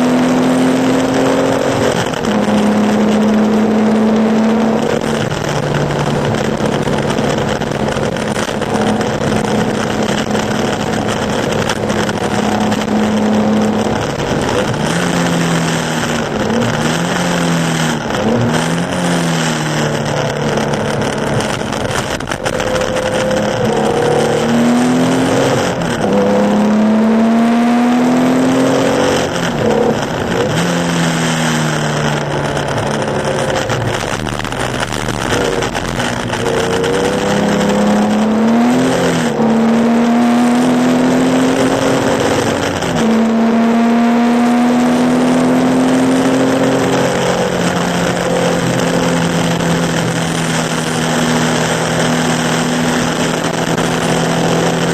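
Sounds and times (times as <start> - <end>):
racing engine revving: 0.0 - 54.9.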